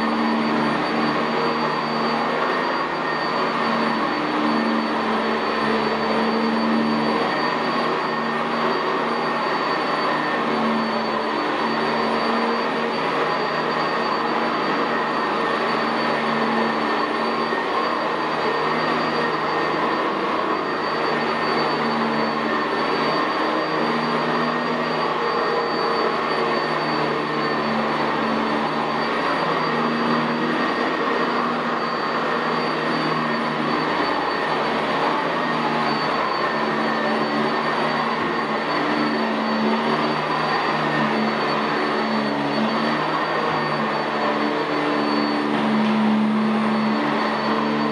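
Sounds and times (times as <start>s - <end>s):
upright vacuum cleaner running: 0.0s - 47.9s.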